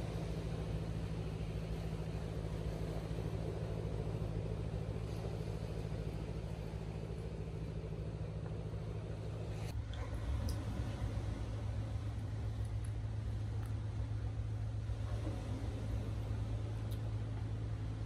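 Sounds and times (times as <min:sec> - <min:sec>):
distant boat engine drone: 0:00.0 - 0:18.0.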